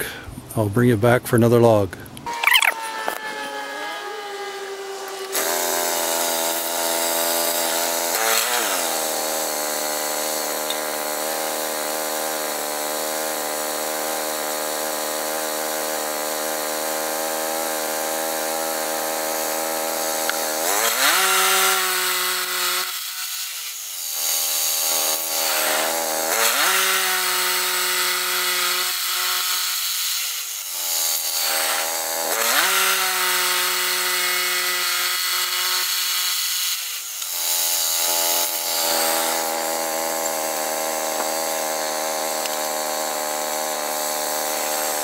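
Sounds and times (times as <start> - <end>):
small gas engine running: 2.2 - 45.0.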